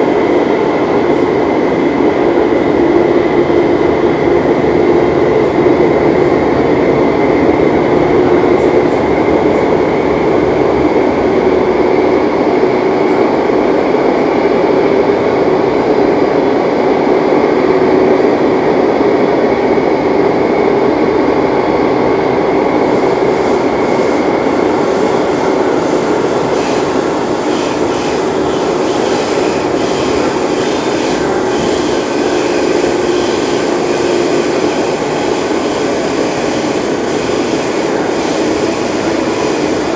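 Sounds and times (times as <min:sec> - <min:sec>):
electric train humming and whining: 0:00.0 - 0:39.9.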